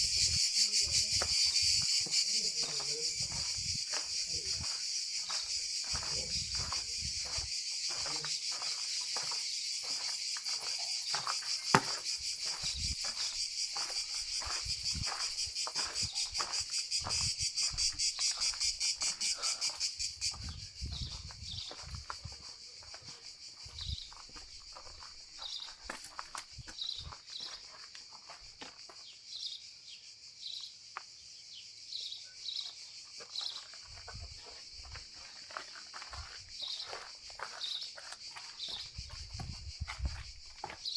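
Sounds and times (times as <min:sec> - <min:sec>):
insects buzzing: 0:00.0 - 0:40.9
footsteps on pavement: 0:00.3 - 0:29.0, 0:33.2 - 0:40.9.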